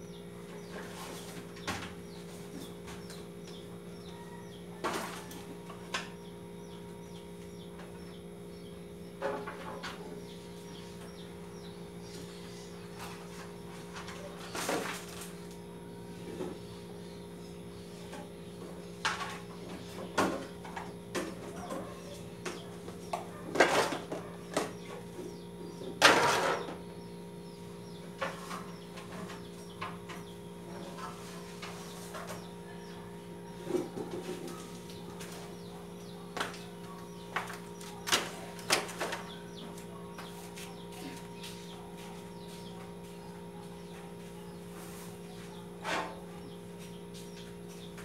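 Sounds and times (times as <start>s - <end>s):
steady electrical hum: 0.0s - 48.0s.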